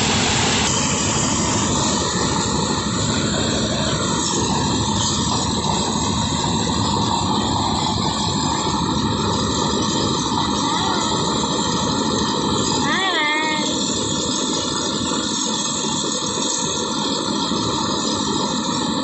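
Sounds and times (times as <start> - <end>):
threshing machine engine running: 0.0 - 19.0.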